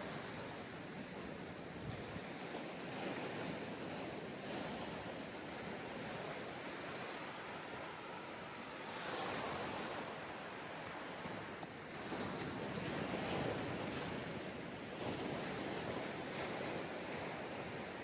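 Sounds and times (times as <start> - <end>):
waves breaking on a beach: 0.0 - 18.0.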